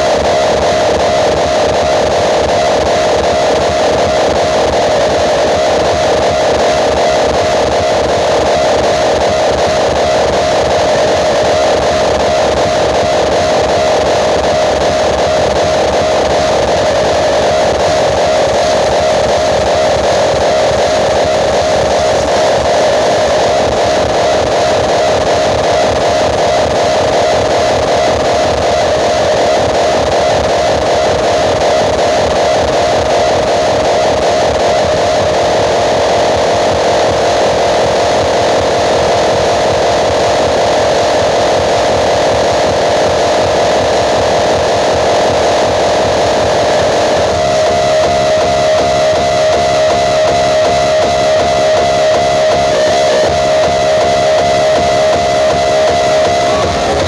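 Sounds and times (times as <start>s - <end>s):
distorted loudspeaker noise: 0.0s - 57.0s.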